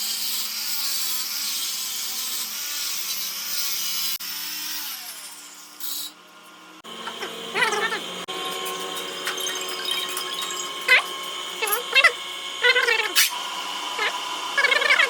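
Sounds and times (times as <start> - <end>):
power tool whining against metal: 0.0 - 15.0.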